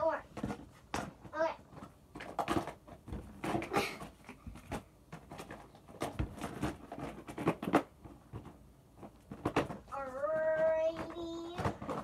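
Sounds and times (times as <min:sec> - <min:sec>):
plastic containers knocking: 0:00.0 - 0:12.0
rustling: 0:00.0 - 0:12.0.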